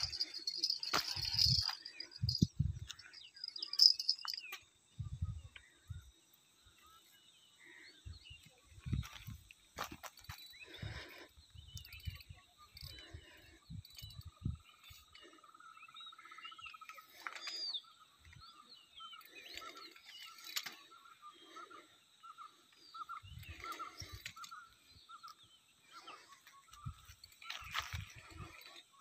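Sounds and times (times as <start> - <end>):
bird chirps: 0.0 - 29.0.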